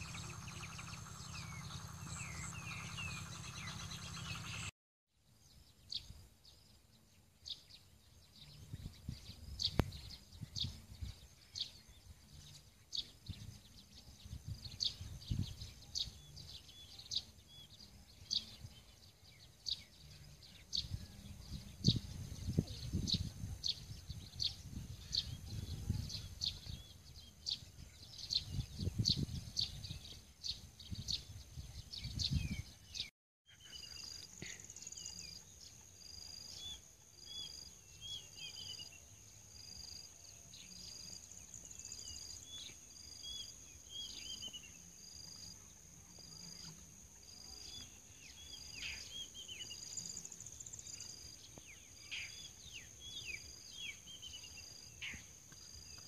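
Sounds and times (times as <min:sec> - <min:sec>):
small birds chirping: 0:00.0 - 0:04.7, 0:05.4 - 0:56.0.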